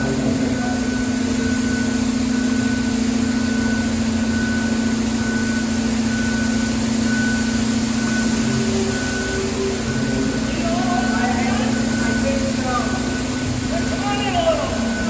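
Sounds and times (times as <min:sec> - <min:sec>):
engine droning: 0:00.0 - 0:15.0
high whine: 0:00.0 - 0:15.0.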